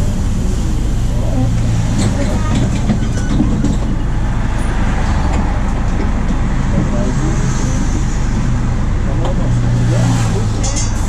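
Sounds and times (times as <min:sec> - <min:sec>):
bus diesel engine humming: 0:00.0 - 0:11.0
road noise: 0:00.0 - 0:11.0.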